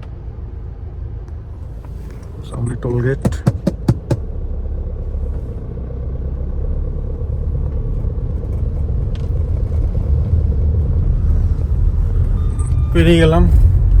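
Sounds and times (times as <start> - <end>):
road and engine rumble inside car: 0.0 - 14.0.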